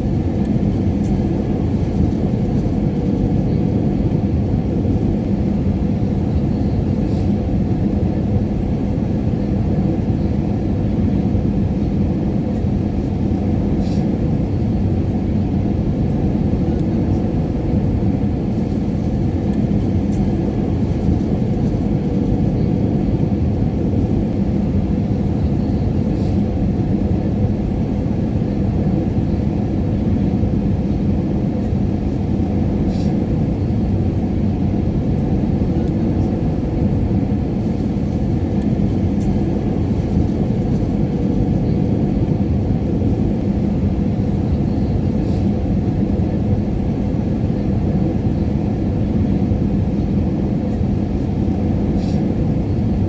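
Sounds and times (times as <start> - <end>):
airliner cabin rumble: 0.0 - 53.0
faint constant hum: 0.0 - 53.0.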